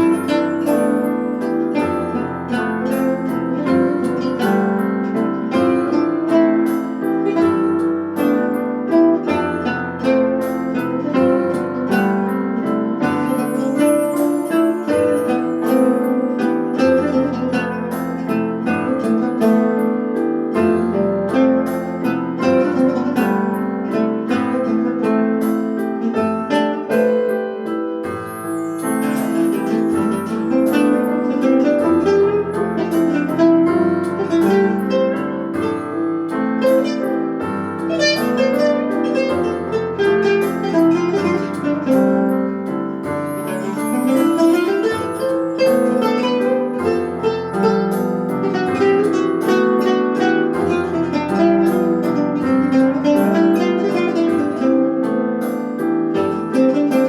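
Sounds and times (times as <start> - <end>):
fretless guitar melody: 0.0 - 57.0
piano playing: 0.0 - 57.0.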